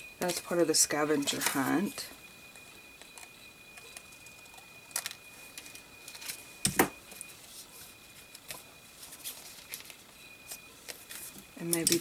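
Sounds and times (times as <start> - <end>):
paper and craft pieces rustling: 0.2 - 1.9, 3.9 - 12.0.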